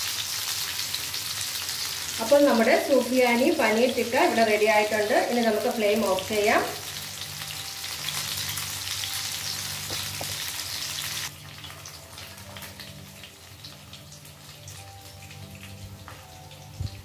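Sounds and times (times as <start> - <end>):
hot oil sizzling in a pan: 0.0 - 17.0.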